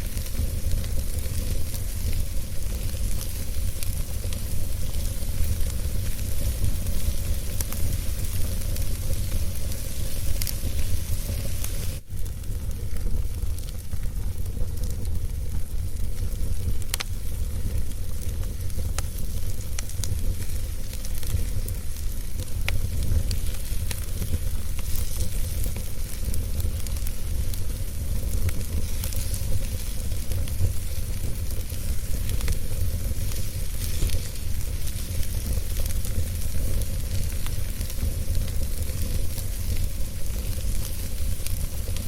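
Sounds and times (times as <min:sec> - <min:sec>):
fire crackles and pops: 0:00.0 - 0:42.0
wood fire hissing and rumbling: 0:00.0 - 0:42.0.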